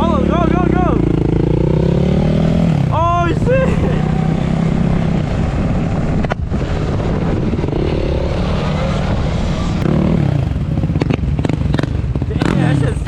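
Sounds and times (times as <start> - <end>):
dirt bike engine revving: 0.0 - 13.0
wind buffeting microphone: 1.0 - 13.0.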